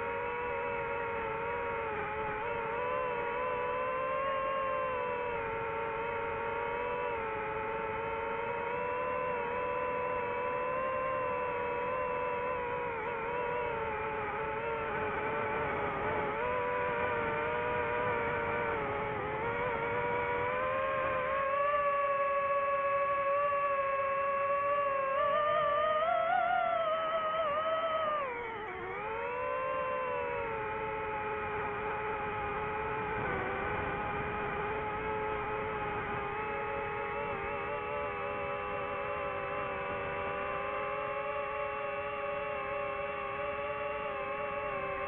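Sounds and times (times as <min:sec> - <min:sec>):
drone motors whining: 0:00.0 - 0:45.0.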